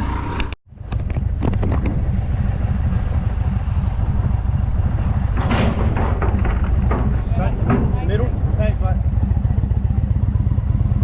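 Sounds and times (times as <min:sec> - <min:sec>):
motorcycle engine running: 0:00.0 - 0:11.0
wind buffeting microphone: 0:00.8 - 0:11.0.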